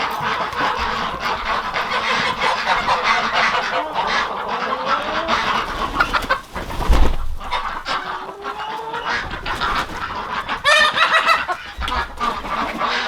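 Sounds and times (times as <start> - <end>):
poultry clucking and honking: 0.0 - 13.0.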